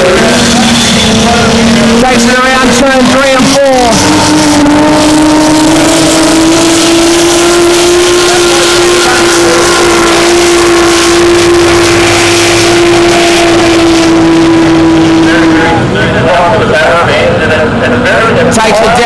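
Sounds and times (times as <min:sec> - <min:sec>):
powerboat engine running hard: 0:00.0 - 0:19.0.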